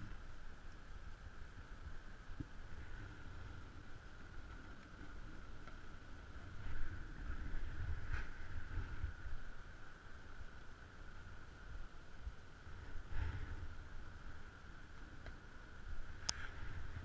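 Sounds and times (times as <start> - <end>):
faint high hum: 0.0 - 17.0
rustling in dry grass: 0.0 - 17.0
wind buffeting microphone: 1.2 - 17.0.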